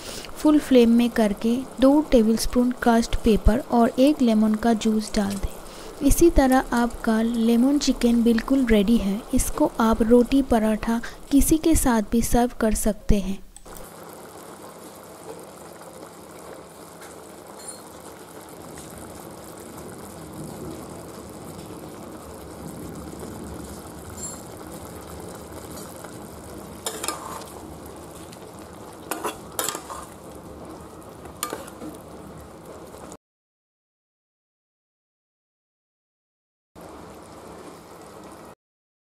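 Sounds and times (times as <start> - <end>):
sauce bubbling and sizzling: 0.0 - 12.9, 13.6 - 33.2, 36.8 - 38.6.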